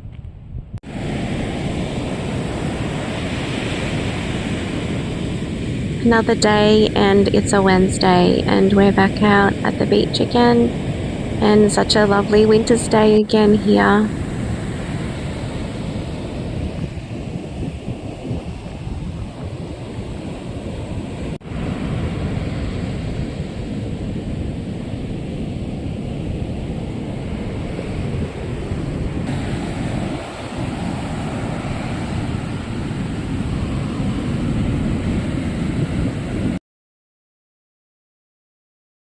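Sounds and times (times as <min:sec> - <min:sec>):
wind buffeting the microphone: 0:00.0 - 0:36.6
ocean surf on a beach: 0:00.8 - 0:36.6.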